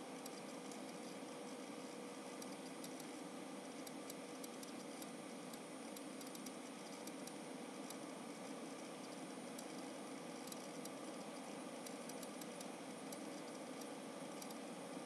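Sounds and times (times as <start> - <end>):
computer fan: 0.0 - 15.0
hard drive clicking: 0.2 - 1.2, 1.8 - 8.1, 9.0 - 14.7.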